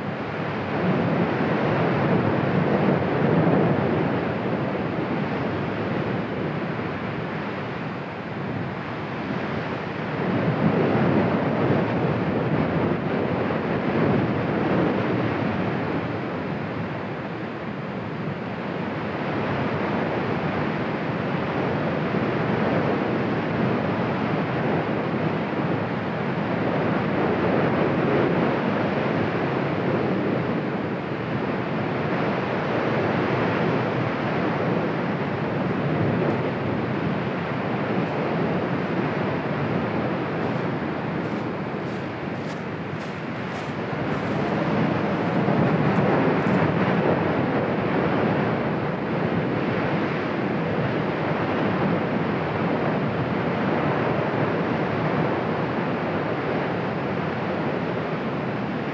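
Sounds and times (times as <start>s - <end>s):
volcano eruption rushing: 0.0s - 58.9s.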